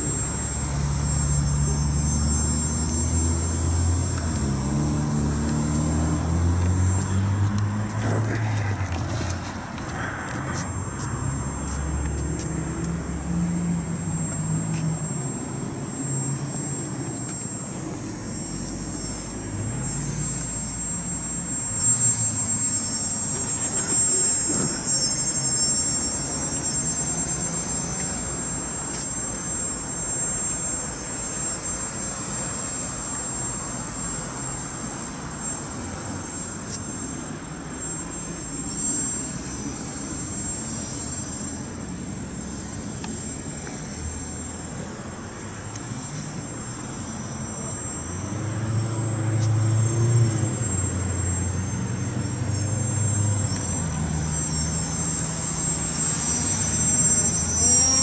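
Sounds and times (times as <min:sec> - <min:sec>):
motor and propeller whine: 0:00.0 - 0:58.0.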